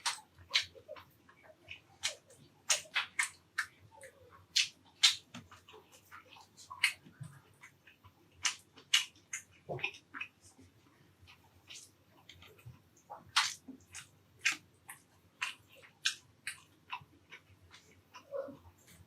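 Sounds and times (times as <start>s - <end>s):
wet mouth clicks: 0.0s - 10.6s, 13.2s - 18.3s
chewing and lip-smacking: 0.0s - 19.0s.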